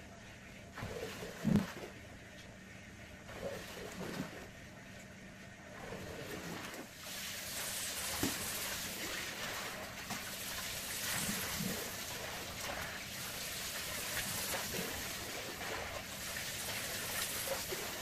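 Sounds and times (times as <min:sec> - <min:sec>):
faint steady hum: 0:00.0 - 0:18.0
water washing a rug: 0:00.2 - 0:02.1, 0:03.2 - 0:05.0, 0:05.7 - 0:18.0.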